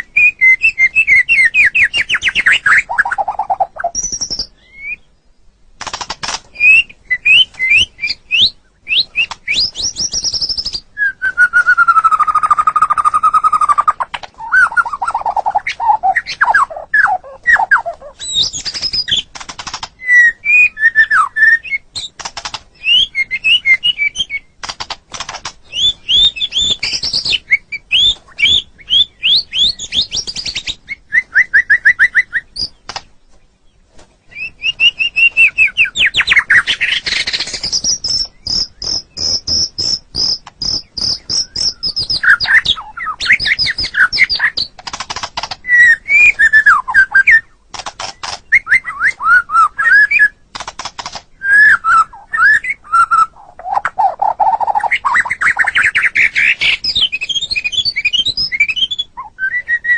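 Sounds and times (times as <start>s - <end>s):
songbird singing whistles and trills: 0.0s - 5.4s, 6.5s - 24.7s, 25.6s - 33.1s, 34.3s - 44.8s, 45.6s - 50.8s, 51.4s - 59.9s.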